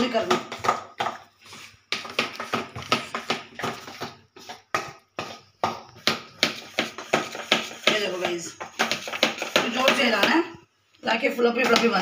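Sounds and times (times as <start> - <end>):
batter slapping in metal bowl: 0.0 - 10.4.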